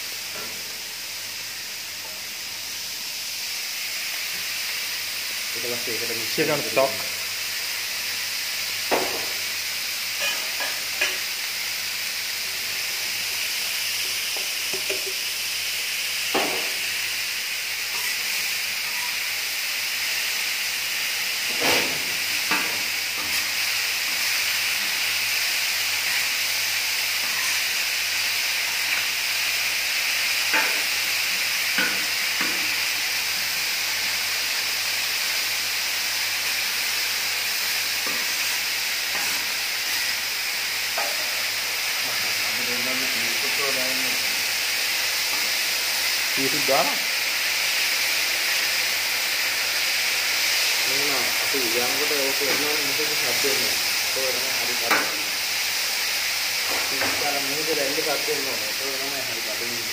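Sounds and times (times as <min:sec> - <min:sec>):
vegetables sizzling on griddle: 0:00.0 - 0:59.9.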